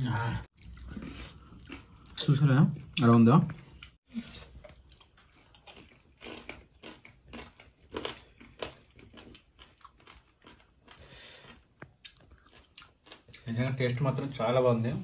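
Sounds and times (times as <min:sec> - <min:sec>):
person chewing and crunching: 0:00.4 - 0:15.0.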